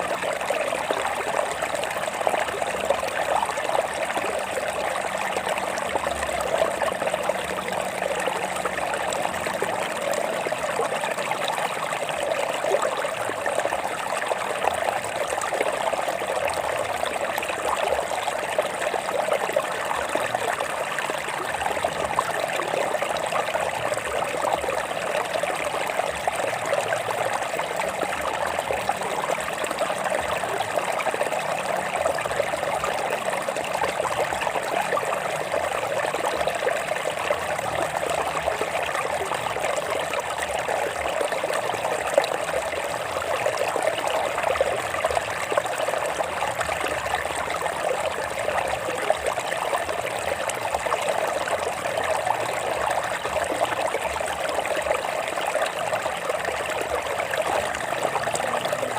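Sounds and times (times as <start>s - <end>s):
stream water trickling: 0.0s - 58.9s.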